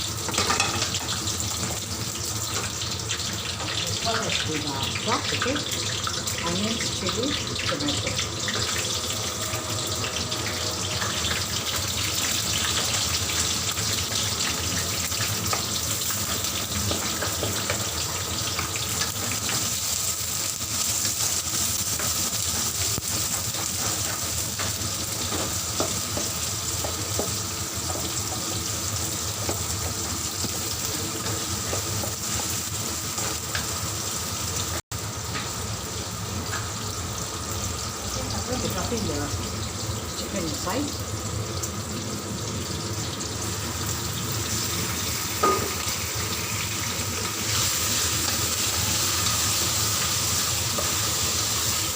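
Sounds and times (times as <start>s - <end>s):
vegetables sizzling in hot oil: 0.0s - 51.9s.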